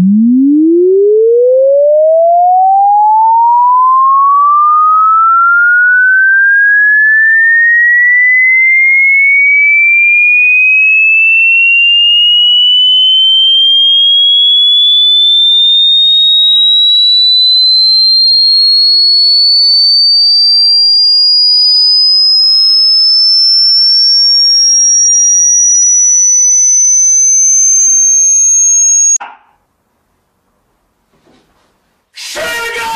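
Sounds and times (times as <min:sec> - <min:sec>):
rising electronic sine tone: 0:00.0 - 0:29.2.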